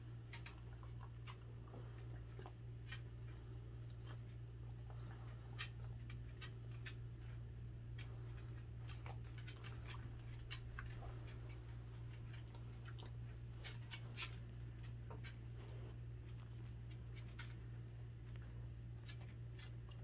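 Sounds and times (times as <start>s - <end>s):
dog chewing wet crunches: 0.0s - 20.0s
steady low hum: 0.0s - 20.0s.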